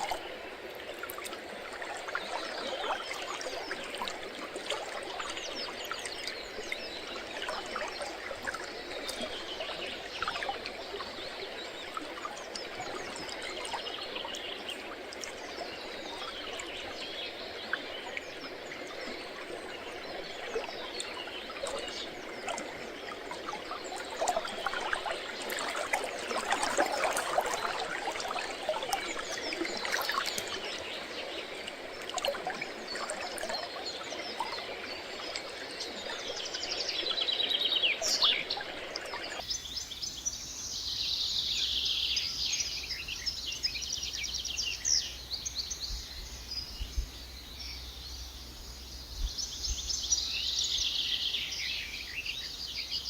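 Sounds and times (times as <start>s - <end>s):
river water flowing: 0.0s - 45.8s.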